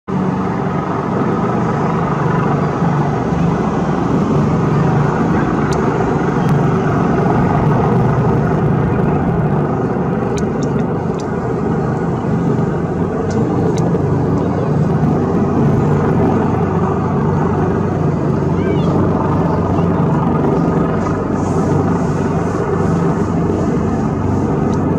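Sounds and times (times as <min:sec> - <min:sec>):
helicopter rotors droning: 0:00.1 - 0:24.9.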